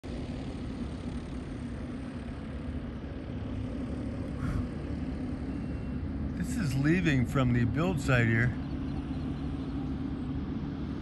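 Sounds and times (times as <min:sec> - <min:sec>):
hovercraft engine droning: 0:00.0 - 0:11.0.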